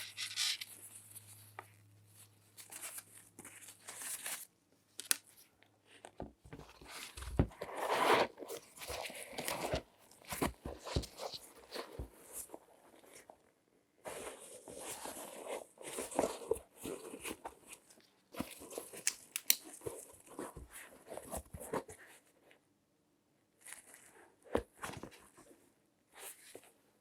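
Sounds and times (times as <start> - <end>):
latex gloves rustling and crinkling: 0.0 - 22.2.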